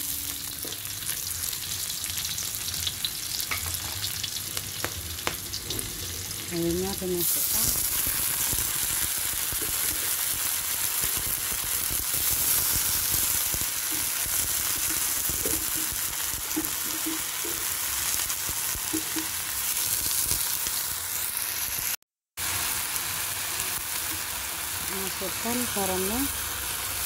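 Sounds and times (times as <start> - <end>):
spinach sizzling in a wok: 0.0 - 27.0.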